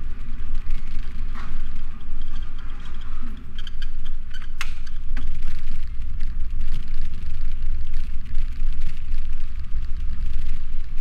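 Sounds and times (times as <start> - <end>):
wind and road rumble: 0.0 - 11.0.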